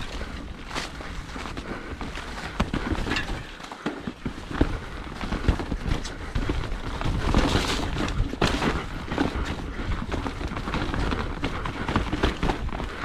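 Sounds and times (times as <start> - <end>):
mountain bike rattling over rough ground: 0.0 - 13.0.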